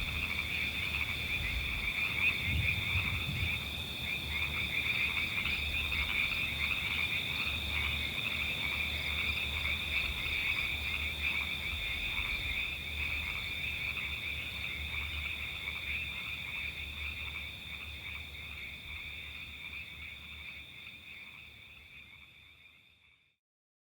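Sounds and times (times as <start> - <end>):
frogs trilling: 0.0 - 23.3.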